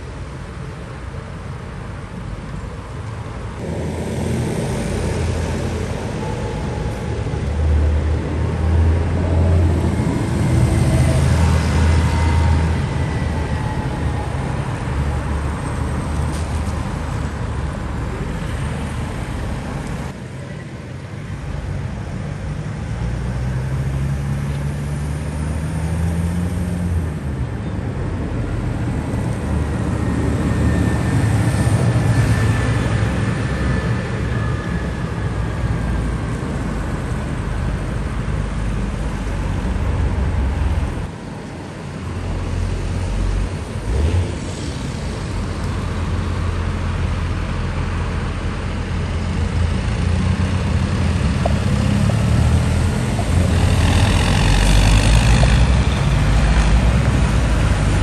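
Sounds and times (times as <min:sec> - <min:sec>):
tractor engines passing: 0:00.0 - 0:58.0.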